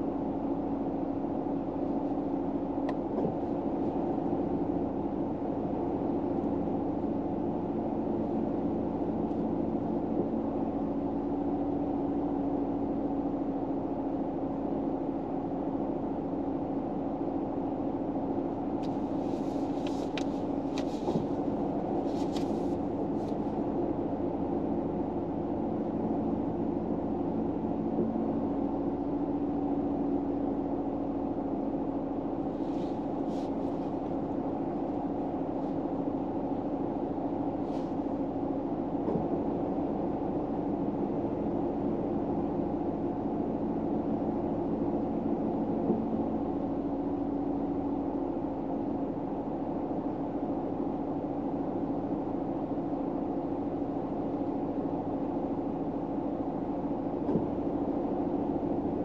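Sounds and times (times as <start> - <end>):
vehicle interior hum: 0.0 - 59.0.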